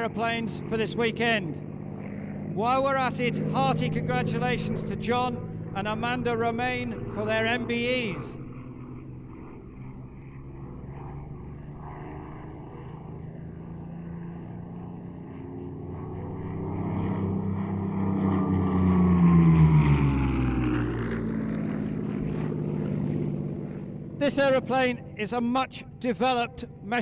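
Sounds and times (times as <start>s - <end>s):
aircraft engine flying past: 0.0s - 27.0s.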